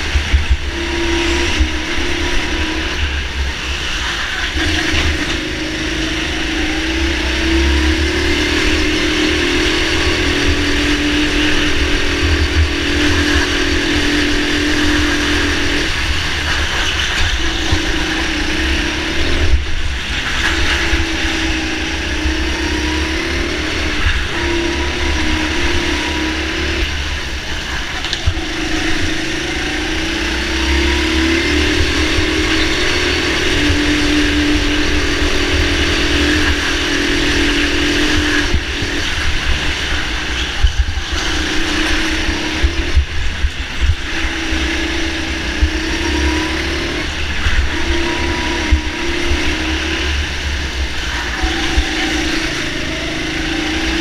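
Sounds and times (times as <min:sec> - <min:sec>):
go-kart motor revving: 0:00.0 - 0:54.0.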